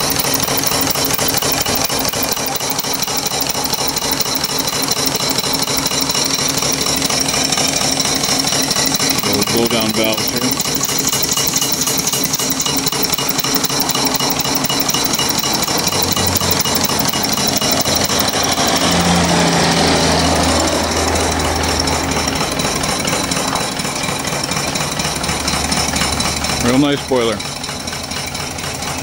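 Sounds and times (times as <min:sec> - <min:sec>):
steam engine rapid beat: 0:00.0 - 0:29.0.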